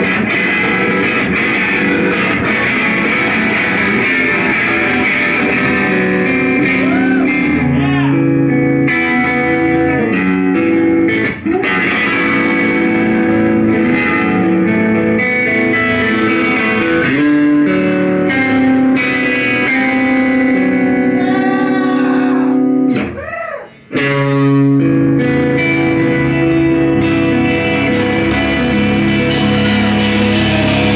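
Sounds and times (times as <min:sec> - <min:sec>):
rock band playing live: 0:00.0 - 0:23.2, 0:23.9 - 0:30.9.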